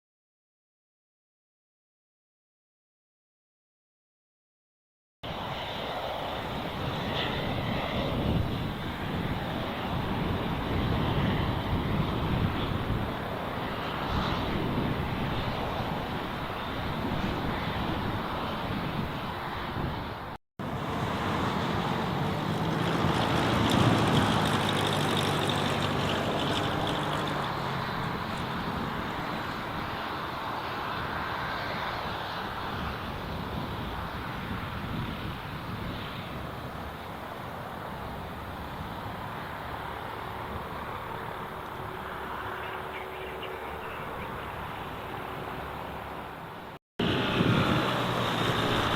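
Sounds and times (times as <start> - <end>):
small aircraft engine passing: 5.3 - 48.9
wind rumble on microphone: 5.3 - 48.9.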